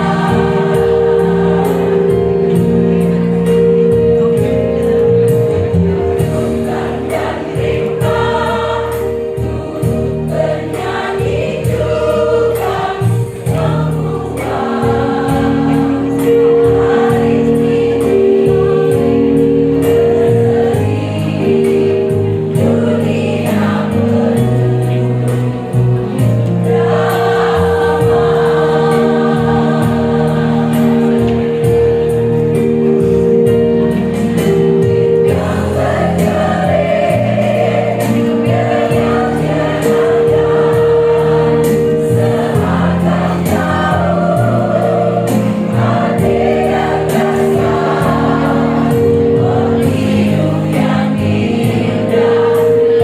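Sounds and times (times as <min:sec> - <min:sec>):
women's choir singing: 0:00.0 - 0:03.8, 0:05.9 - 0:32.4, 0:34.8 - 0:53.0.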